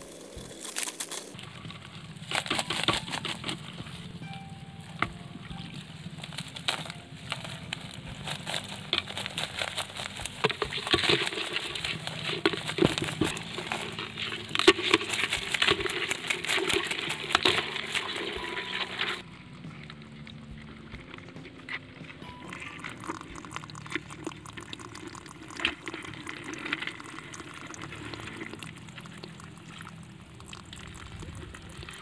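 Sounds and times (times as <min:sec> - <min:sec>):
crabs clicking and scraping: 0:00.0 - 0:04.2, 0:05.0 - 0:32.0.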